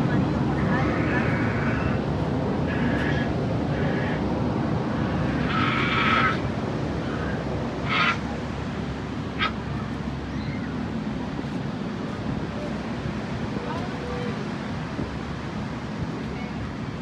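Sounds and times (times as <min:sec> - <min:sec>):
ocean surf: 0:00.0 - 0:17.0
wind: 0:00.0 - 0:17.0.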